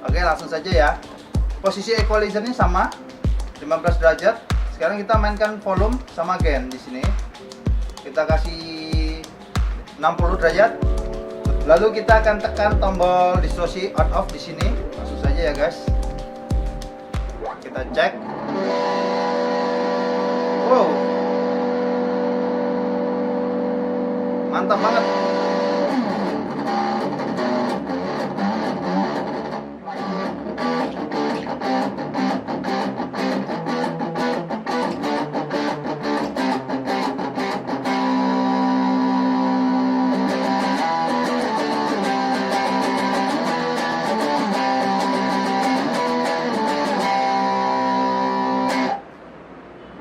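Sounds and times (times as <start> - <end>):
distorted electric guitar: 0.0 - 49.1.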